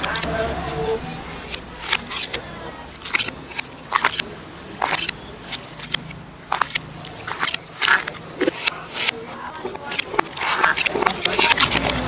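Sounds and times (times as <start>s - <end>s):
spoon scraping clay mortar: 0.0s - 12.0s.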